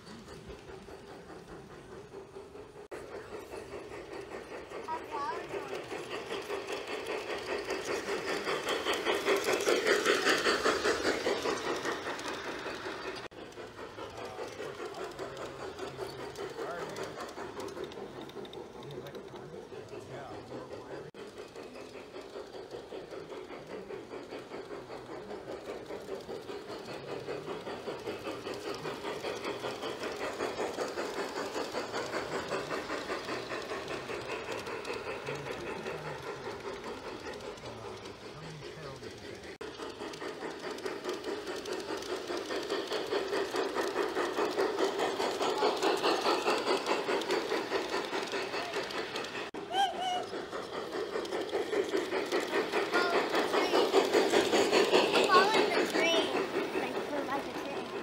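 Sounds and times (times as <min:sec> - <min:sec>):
model train rhythmic clatter: 0:00.0 - 0:58.0.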